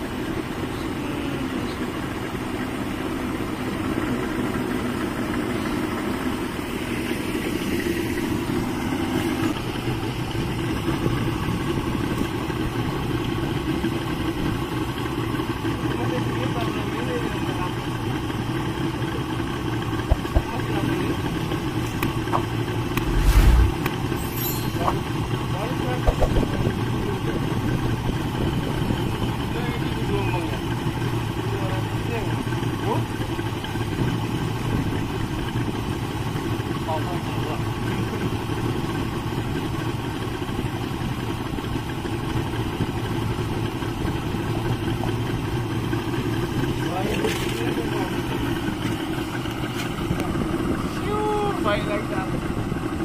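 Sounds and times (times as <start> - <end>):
outboard engine idling: 0.0 - 53.0.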